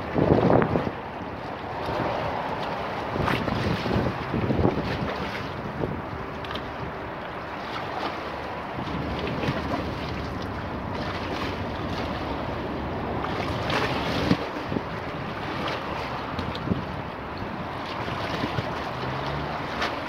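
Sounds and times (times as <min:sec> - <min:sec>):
waves splashing against stone steps: 0:00.0 - 0:20.0
wind on microphone: 0:00.0 - 0:20.0.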